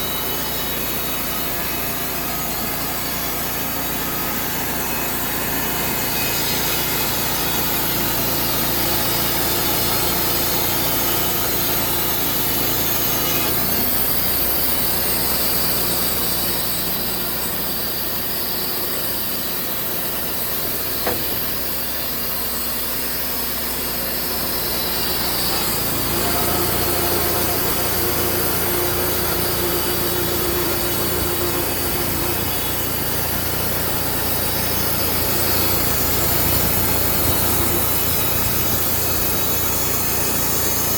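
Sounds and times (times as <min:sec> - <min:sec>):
chainsaw cutting a log: 0:00.0 - 0:40.9.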